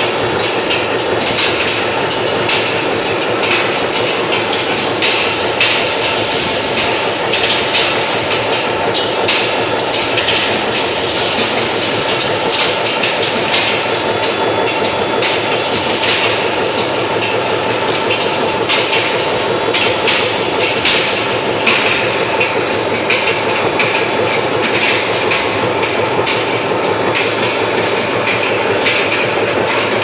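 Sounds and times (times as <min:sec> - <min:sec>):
rolling mill mechanical din: 0:00.0 - 0:30.0.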